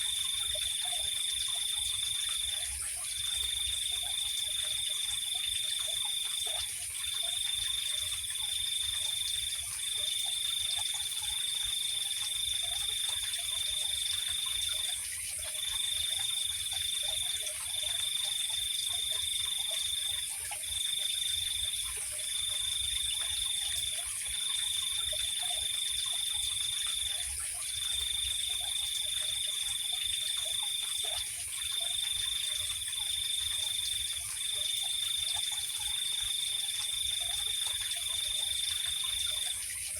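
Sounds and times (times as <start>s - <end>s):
cricket trilling: 0.0s - 39.9s
frogs calling faintly: 0.0s - 39.9s.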